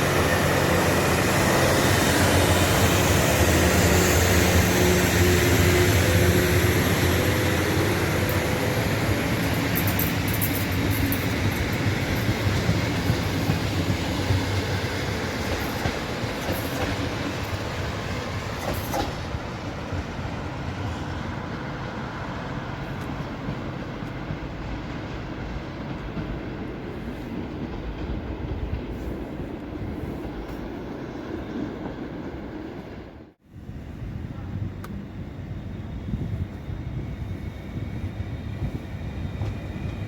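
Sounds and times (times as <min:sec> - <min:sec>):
diesel train rumbling along rails: 0:00.0 - 0:40.0.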